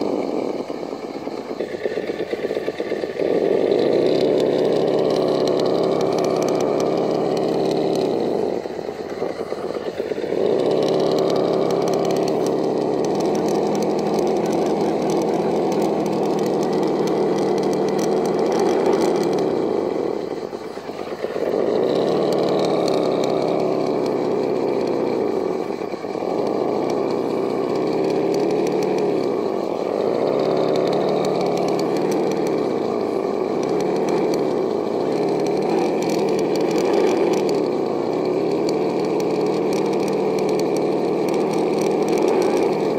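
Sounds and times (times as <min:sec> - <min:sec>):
electric motor and gears whining: 0:00.0 - 0:42.9.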